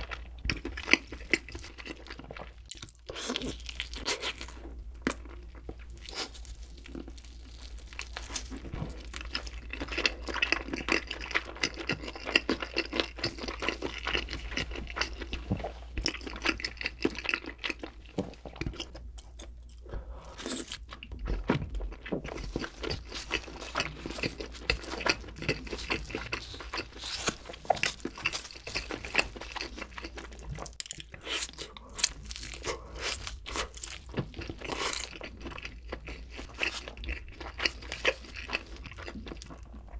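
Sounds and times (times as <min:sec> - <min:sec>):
chewing and crunching pizza: 0:00.0 - 0:39.9.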